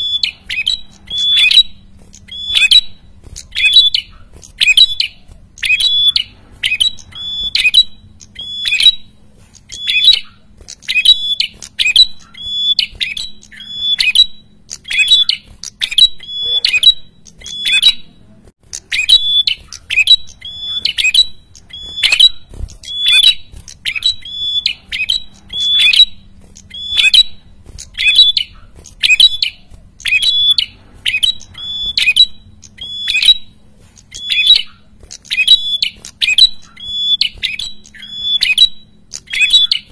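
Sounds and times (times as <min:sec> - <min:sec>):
bird calling sharp high calls: 0:00.0 - 0:39.9.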